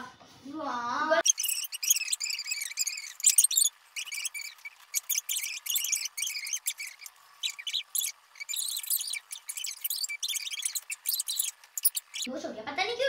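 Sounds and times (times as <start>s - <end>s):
high-pitched sped-up voices chattering: 1.2s - 12.3s.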